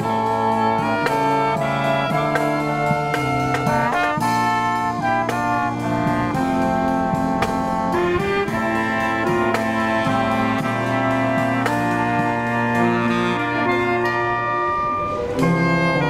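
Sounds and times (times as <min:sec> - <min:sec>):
marching brass band playing: 0:00.0 - 0:16.0.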